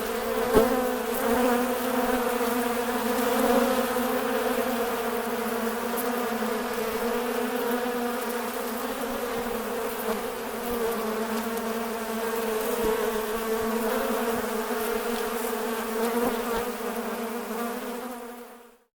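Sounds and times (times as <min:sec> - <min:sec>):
wasps buzzing: 0:00.0 - 0:18.6.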